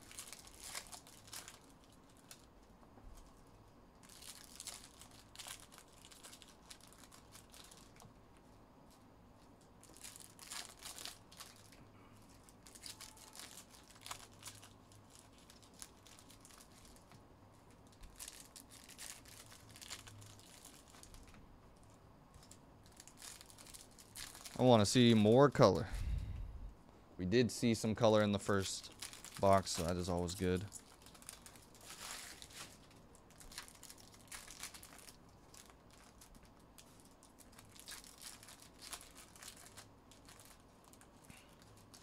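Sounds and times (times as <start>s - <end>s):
foil wrappers crinkling and tearing: 0.0s - 2.5s, 4.0s - 8.1s, 9.8s - 25.8s, 27.6s - 42.0s.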